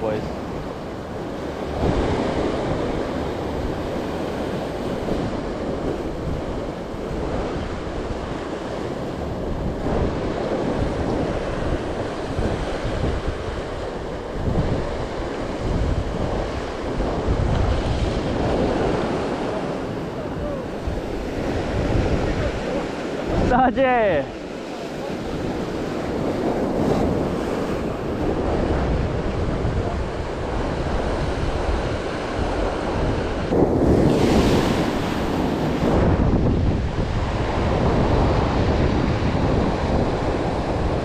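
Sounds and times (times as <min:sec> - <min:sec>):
surf breaking over rocks: 0:00.0 - 0:41.0
wind buffeting microphone: 0:00.0 - 0:41.0.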